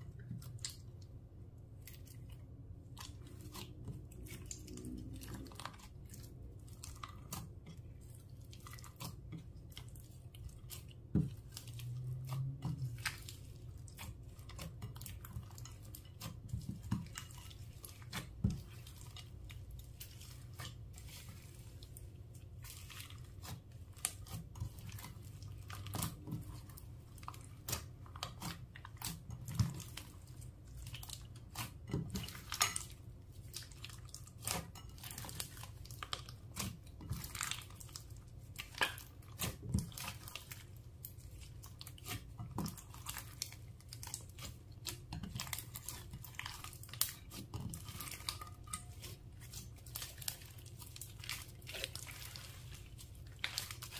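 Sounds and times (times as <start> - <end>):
slime squishing and crackling: 0.0 - 53.9.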